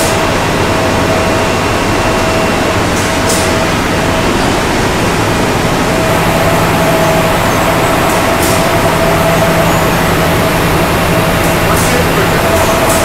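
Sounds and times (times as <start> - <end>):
loud factory machinery: 0.0 - 13.0
machinery hum tone: 0.0 - 13.0.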